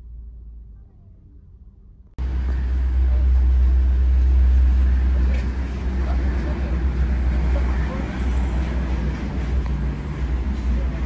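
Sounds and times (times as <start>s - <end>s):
highway traffic rumble: 0.0s - 11.0s.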